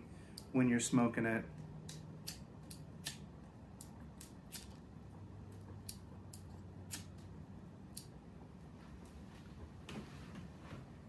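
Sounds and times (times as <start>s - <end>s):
low steady hum: 0.0s - 11.0s
wood fire crackling: 0.0s - 11.0s.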